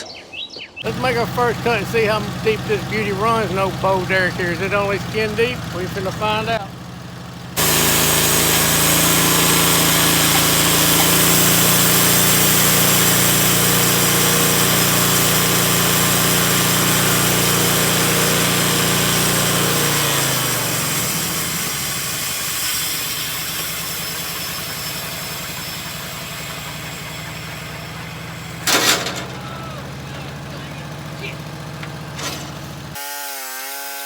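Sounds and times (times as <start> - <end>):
saw blade cutting log: 0.8 - 6.7, 7.6 - 34.0
sawmill engine running: 0.8 - 34.0.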